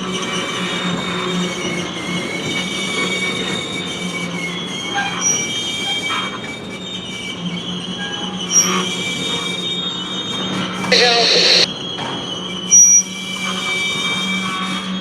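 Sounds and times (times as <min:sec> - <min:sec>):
train wheels squealing on rail: 0:00.0 - 0:15.0.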